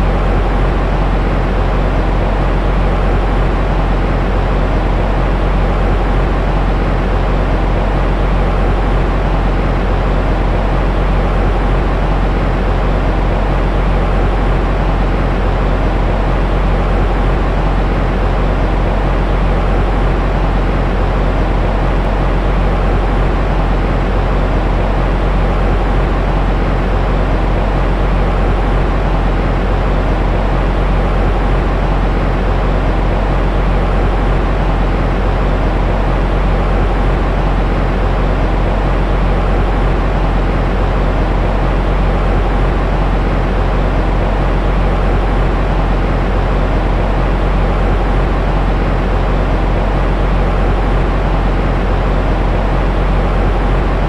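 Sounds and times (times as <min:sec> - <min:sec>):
deep muffled white noise: 0:00.0 - 0:54.0.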